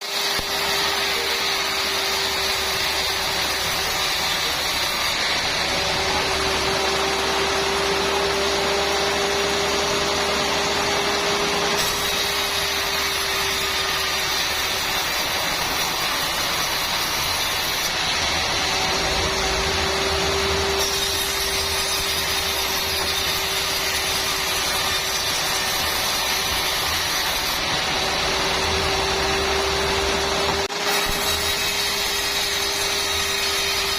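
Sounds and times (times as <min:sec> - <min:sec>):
sawmill saw cutting timber: 0:00.0 - 0:33.9.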